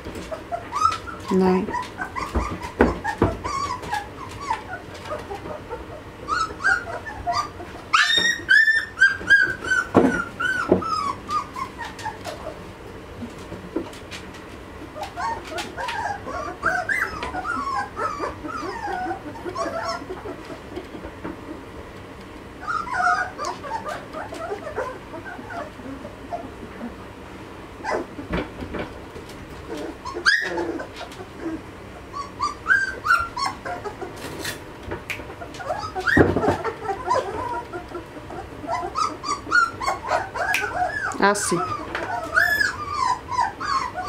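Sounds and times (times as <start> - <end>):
puppies whimpering and squeaking: 0.0 - 44.0.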